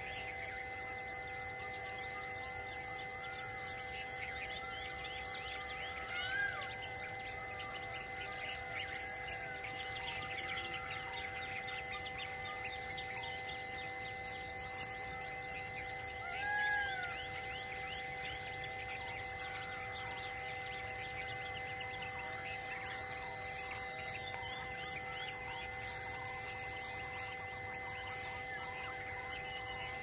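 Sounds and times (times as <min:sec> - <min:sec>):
pulsing insect chorus: 0:00.0 - 0:30.0.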